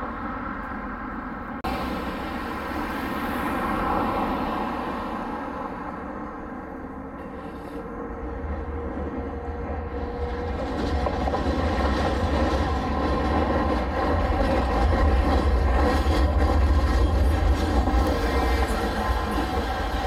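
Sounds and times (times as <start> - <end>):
multi-tone tram hum: 0.0 - 20.0
tram rumbling past: 0.0 - 20.0.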